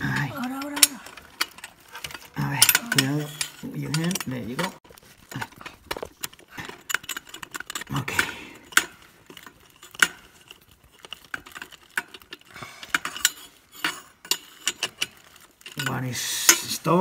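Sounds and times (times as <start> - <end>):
metal hand tools clinking: 0.0 - 17.0
metal parts knocking together: 0.0 - 17.0.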